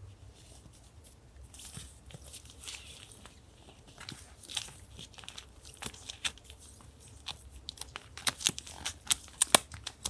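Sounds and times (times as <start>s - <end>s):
paper crinkling and rustling: 0.3s - 10.0s.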